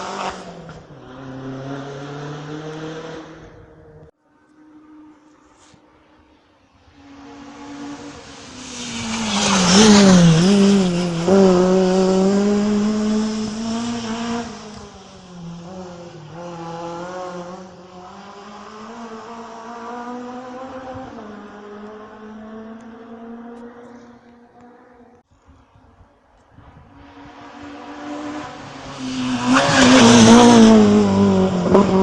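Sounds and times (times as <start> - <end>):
rally car engine passing: 0.0 - 4.0, 4.6 - 25.1, 26.9 - 32.0.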